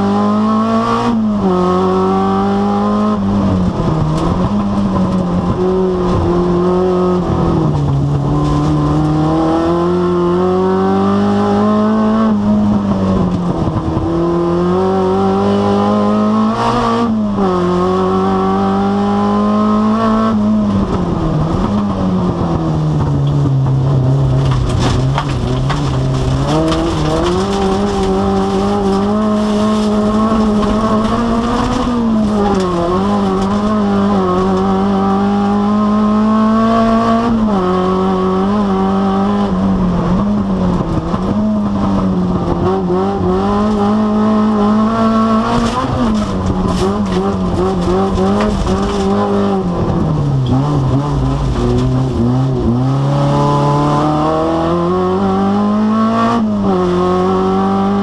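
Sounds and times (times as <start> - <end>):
car engine revving high: 0.0 - 58.0.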